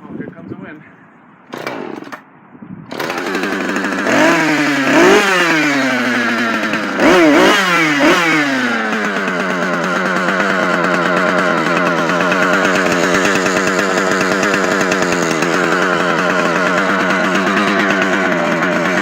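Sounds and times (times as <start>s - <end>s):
chainsaw idling and revving: 1.5s - 2.2s, 2.9s - 19.0s
chainsaw starting: 1.5s - 2.3s, 2.9s - 19.0s.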